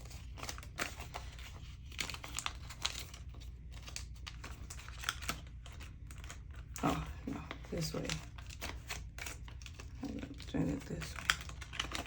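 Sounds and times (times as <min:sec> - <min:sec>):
banknotes and plastic rustling: 0:00.0 - 0:12.0.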